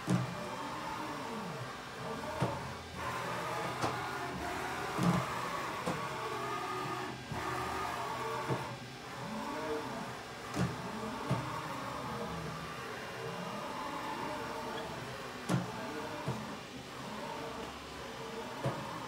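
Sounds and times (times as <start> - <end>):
mill axis drive whining: 0.0 - 19.0.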